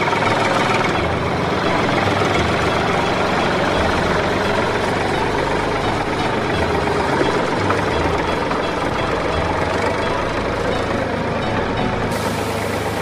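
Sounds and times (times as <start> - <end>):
toy tractor chugging: 0.0 - 13.0.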